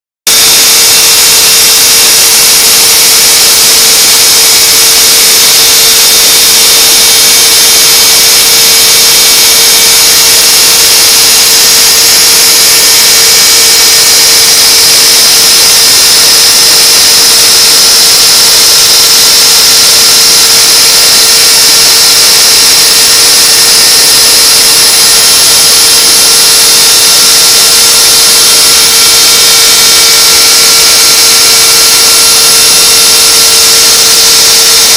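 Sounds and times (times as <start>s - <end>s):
milling machine whine: 0.3s - 34.9s.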